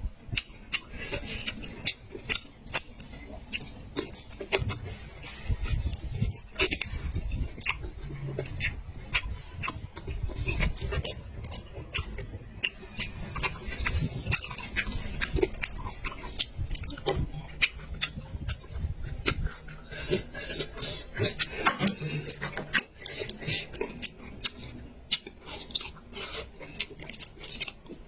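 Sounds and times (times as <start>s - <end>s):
chewing with wet smacking: 0.0s - 28.0s.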